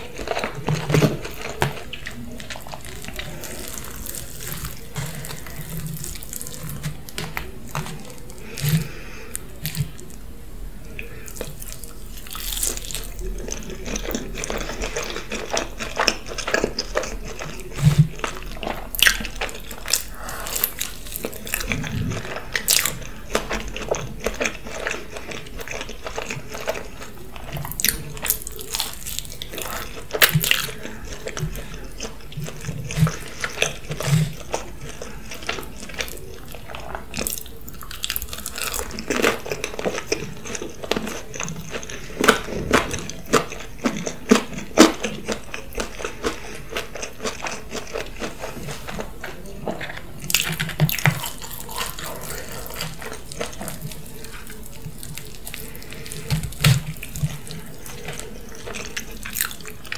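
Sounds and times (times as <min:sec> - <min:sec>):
chewing pizza: 0:00.0 - 0:59.9.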